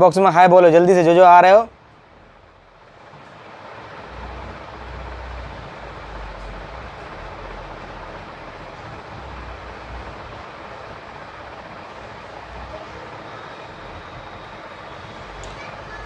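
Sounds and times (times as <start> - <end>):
rushing hiss: 0.8 - 16.0.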